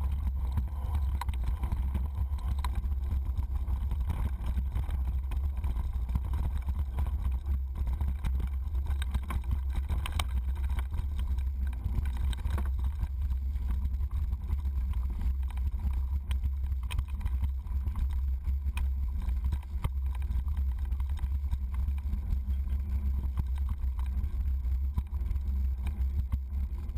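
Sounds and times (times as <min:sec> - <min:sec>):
bike rattling over bumps: 0:00.0 - 0:26.9
wind and tyres rumbling on dirt: 0:00.0 - 0:26.9.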